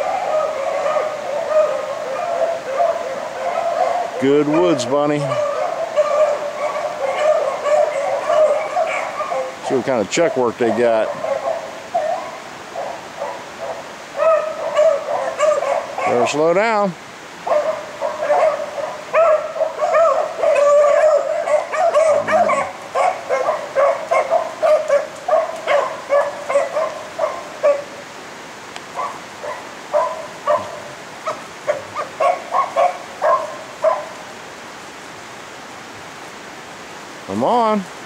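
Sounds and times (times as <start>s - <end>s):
dogs baying and yipping: 0.0s - 16.5s, 17.4s - 28.1s, 28.9s - 34.2s.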